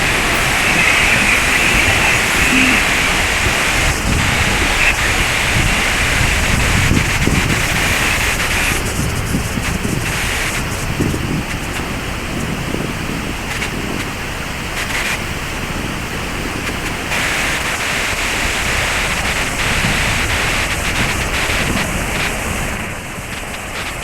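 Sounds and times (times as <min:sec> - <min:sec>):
waterfall rushing: 0:00.0 - 0:24.0
wind buffeting microphone: 0:00.0 - 0:24.0.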